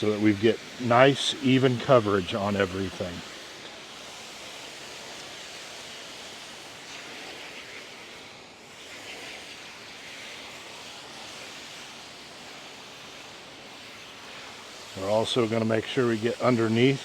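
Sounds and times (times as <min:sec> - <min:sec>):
spray gun hissing: 0:00.0 - 0:17.0.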